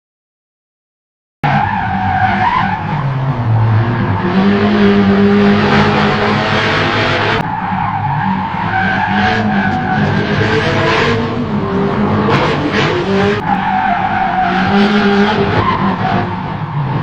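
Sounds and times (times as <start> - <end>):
racing car engine running hard: 1.5 - 17.0
tyres screeching: 1.5 - 17.0.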